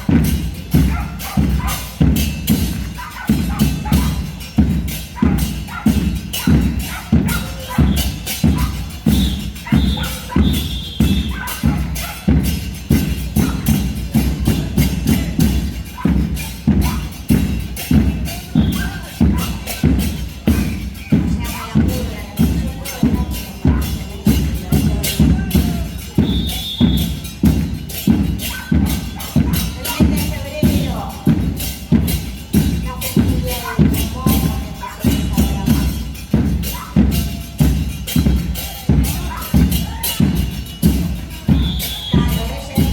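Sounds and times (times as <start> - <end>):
bass drums beating: 0.0 - 42.9
cymbals beating: 0.0 - 42.9
percussion band playing: 0.0 - 42.9.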